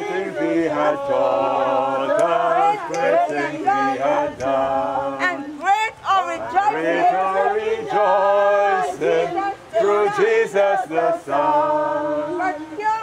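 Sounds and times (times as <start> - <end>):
man singing: 0.0 - 5.3, 6.4 - 12.7
group singing a hymn: 0.0 - 13.0.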